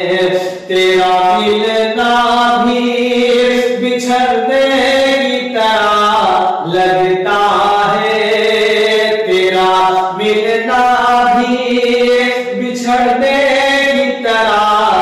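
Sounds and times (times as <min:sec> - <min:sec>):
man singing held notes: 0:00.0 - 0:15.0.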